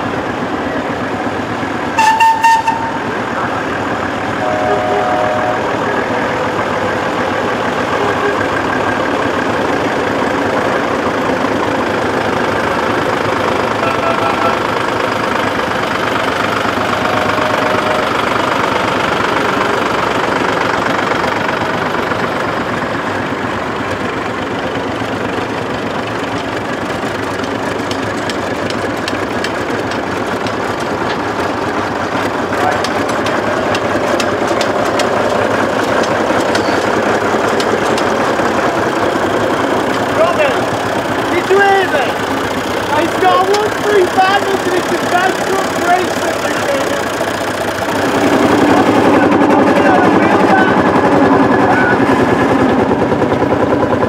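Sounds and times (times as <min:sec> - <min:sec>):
tractor diesel engines passing: 0:00.0 - 0:54.0.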